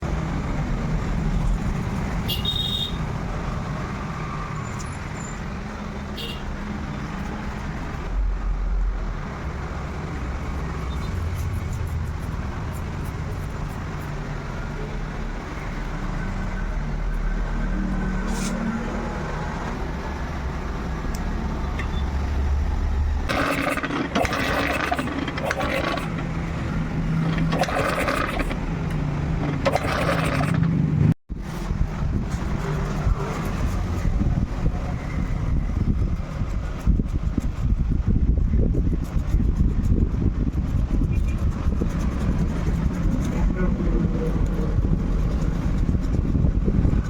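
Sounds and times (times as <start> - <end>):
low rumble of vehicle engines: 0.0 - 47.0.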